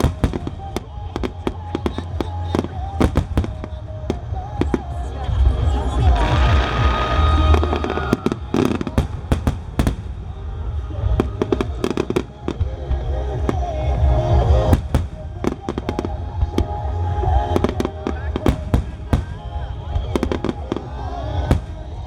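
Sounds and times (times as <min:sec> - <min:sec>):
deep continuous rumble: 0:00.0 - 0:22.0.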